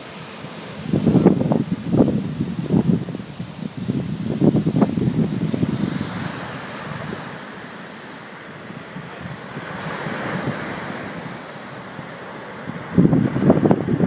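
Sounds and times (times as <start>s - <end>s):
storm surf breaking on a beach: 0.0s - 14.0s
wind rumble on microphone: 0.6s - 7.8s, 8.5s - 14.0s.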